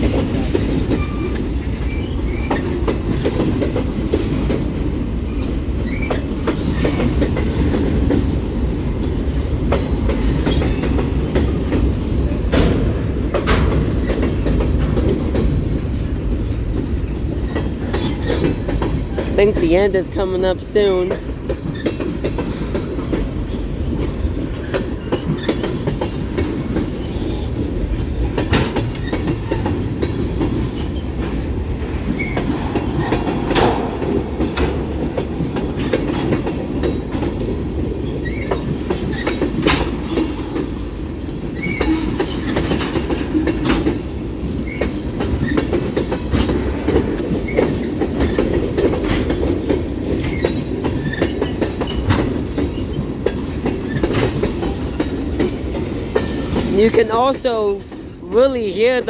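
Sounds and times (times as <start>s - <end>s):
wheels clacking over rail joints: 0.0s - 20.2s, 20.8s - 59.0s
freight cars rumbling: 0.0s - 59.0s.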